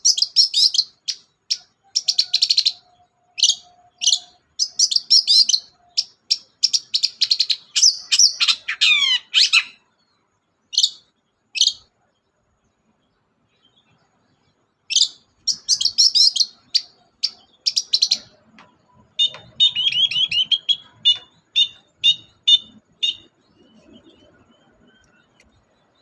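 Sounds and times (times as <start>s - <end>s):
bird singing harsh chattering notes: 0.0s - 9.9s, 14.8s - 26.0s.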